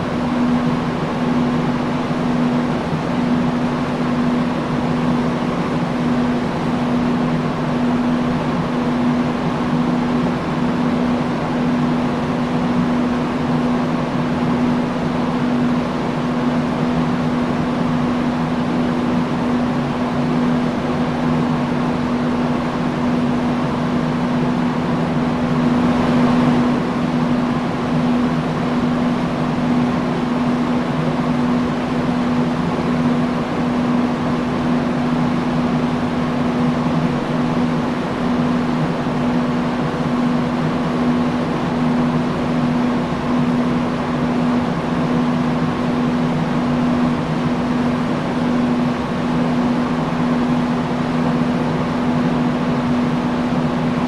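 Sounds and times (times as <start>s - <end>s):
industrial fan running: 0.0s - 54.0s.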